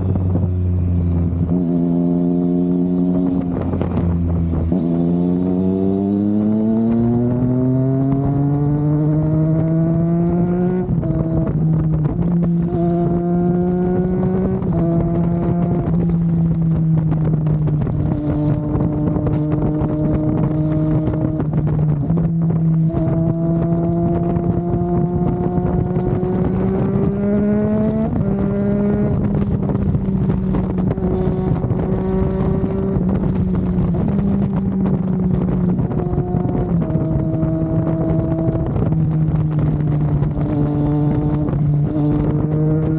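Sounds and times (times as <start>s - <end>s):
motorcycle engine accelerating: 0.0s - 42.9s
wind noise on microphone: 0.0s - 42.9s.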